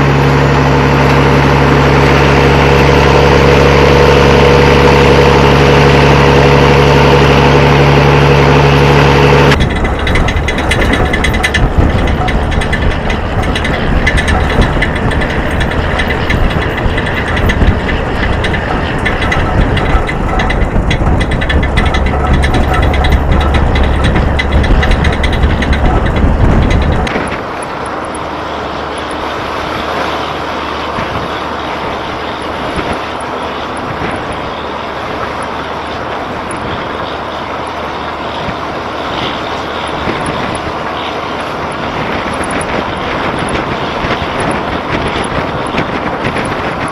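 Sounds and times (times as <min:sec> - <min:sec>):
heavy diesel engine rumbling: 0:00.0 - 0:46.9.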